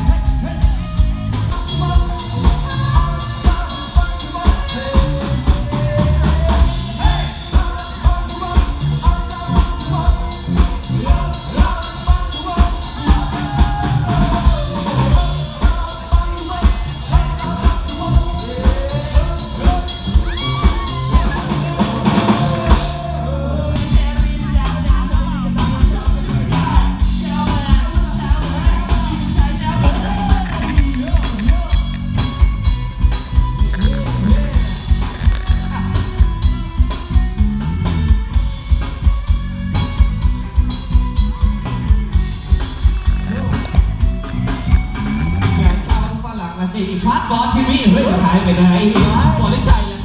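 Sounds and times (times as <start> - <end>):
person singing: 0.0 - 37.4, 40.9 - 50.0
drum kit beat: 0.0 - 50.0
electric guitar: 0.0 - 50.0.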